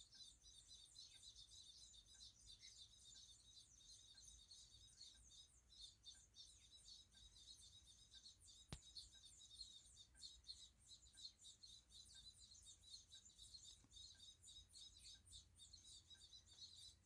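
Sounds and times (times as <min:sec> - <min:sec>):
nestling birds chirping: 0:00.1 - 0:17.0.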